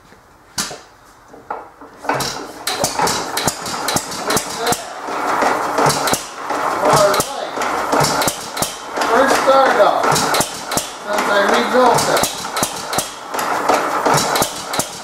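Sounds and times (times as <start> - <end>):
engine running with metallic knocks: 1.4 - 15.0
flywheel turned by hand knocking: 2.1 - 15.0.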